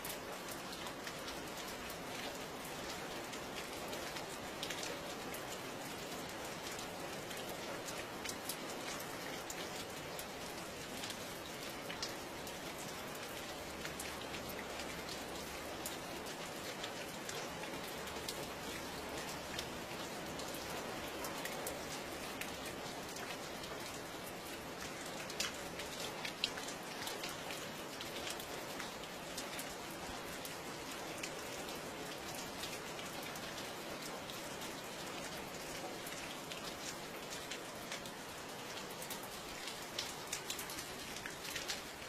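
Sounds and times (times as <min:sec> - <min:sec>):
raindrops ticking on surface: 0:00.0 - 0:42.0
steady rain hiss: 0:00.0 - 0:42.0.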